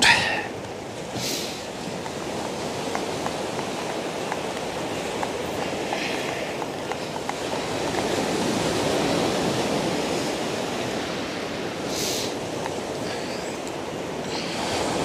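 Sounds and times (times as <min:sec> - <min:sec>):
sea surf on a beach: 0:00.0 - 0:15.0.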